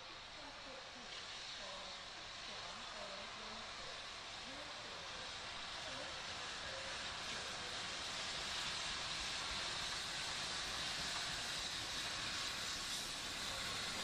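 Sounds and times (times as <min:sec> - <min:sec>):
steam hissing: 0:00.0 - 0:14.0
steam locomotive passing: 0:00.0 - 0:14.0.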